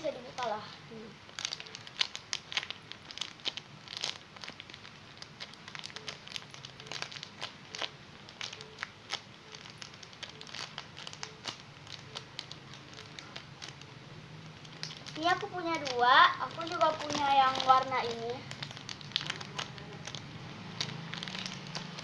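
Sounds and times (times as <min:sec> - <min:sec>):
crinkling of squishy toy being handled: 0:00.1 - 0:22.0.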